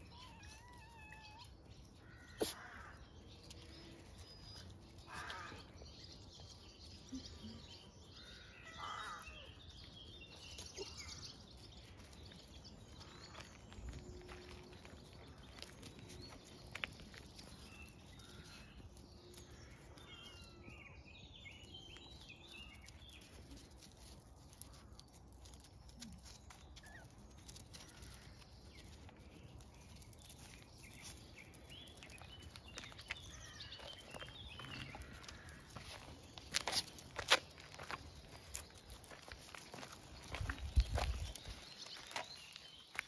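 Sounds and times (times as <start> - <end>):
birds chirping: 0.0 - 23.8, 24.5 - 43.0
puppies' paws on gravel: 0.0 - 43.0.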